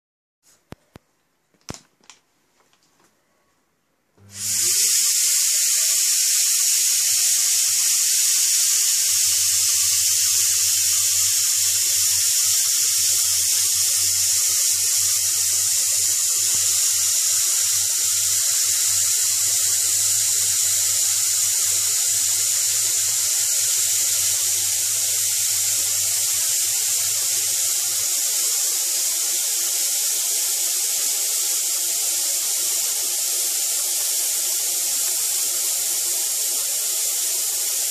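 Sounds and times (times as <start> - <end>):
vacuum cleaner hissing: 4.2 - 37.9.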